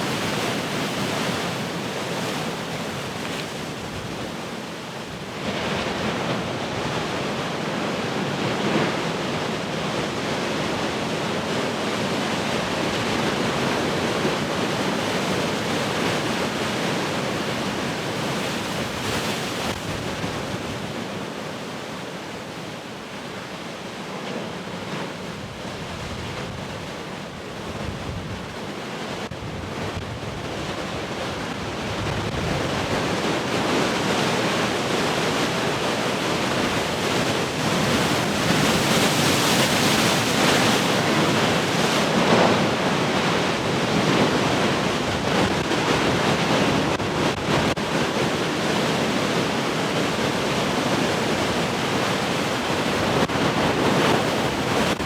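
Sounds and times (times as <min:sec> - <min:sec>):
heavy ocean surf breaking: 0:00.0 - 0:55.0.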